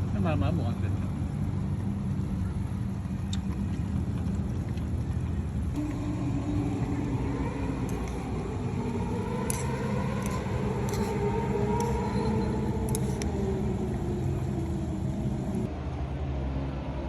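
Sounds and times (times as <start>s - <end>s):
engine running with rising whine: 0.0s - 17.0s.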